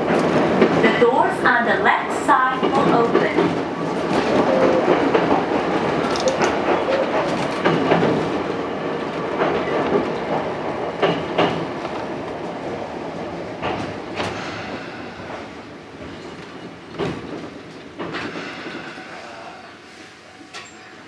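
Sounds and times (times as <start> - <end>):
train wheels clicking over rail joints: 1.9 - 19.4.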